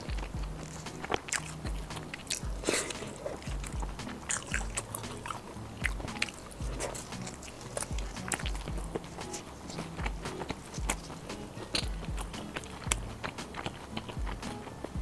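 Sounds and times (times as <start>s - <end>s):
background music with low beat: 0.0s - 15.0s
biting and chewing crunchy food: 0.0s - 15.0s.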